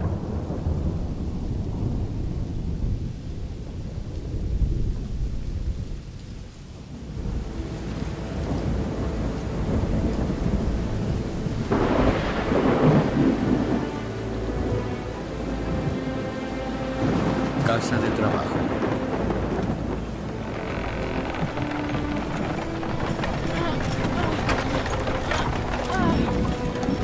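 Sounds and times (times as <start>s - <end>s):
loud thunderclap: 0.0s - 14.1s, 17.0s - 27.0s
heavy rain: 0.0s - 27.0s
rolling thunder: 0.0s - 27.0s.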